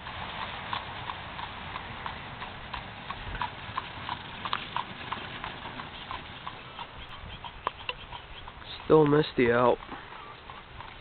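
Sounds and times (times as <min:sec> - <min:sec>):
horse hooves clip-clopping on road: 0:00.0 - 0:11.0.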